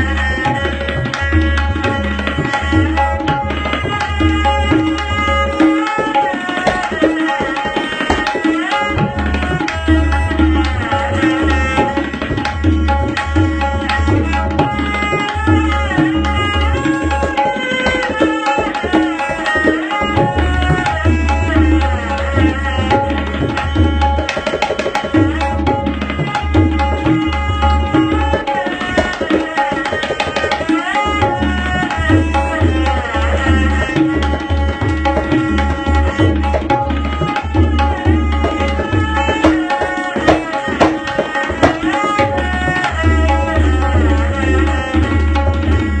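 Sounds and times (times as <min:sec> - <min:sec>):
tabla playing: 0:00.0 - 0:46.0.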